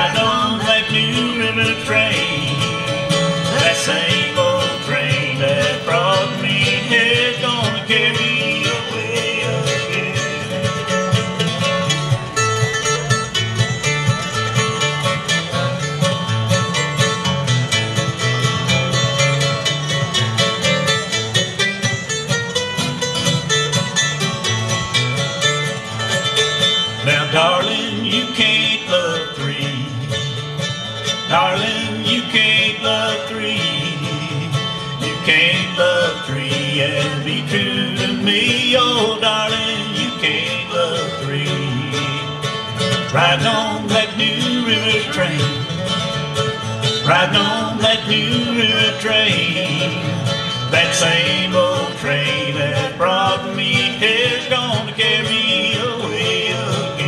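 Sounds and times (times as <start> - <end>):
acoustic guitar strumming: 0.0 - 57.0
mandolin picking: 0.0 - 57.0.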